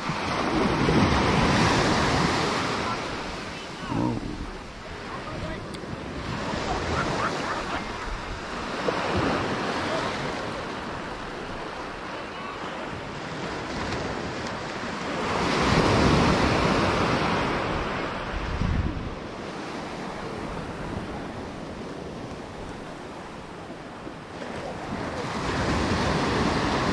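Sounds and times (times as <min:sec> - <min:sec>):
waves washing over sandy beach: 0:00.0 - 0:26.9.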